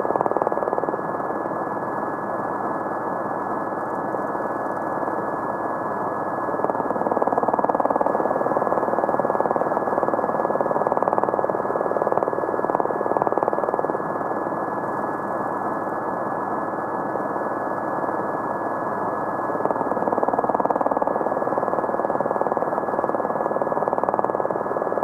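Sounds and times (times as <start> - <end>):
constant high tone: 0.0 - 25.0.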